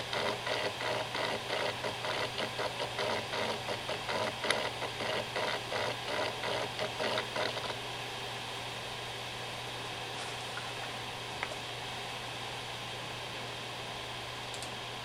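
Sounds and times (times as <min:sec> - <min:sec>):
hard drive spindle hum: 0:00.0 - 0:15.0.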